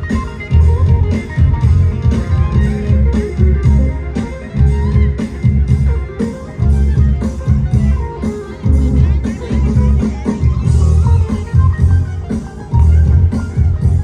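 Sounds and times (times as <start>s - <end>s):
electric guitar: 0.0s - 14.0s
live band music: 0.0s - 14.0s.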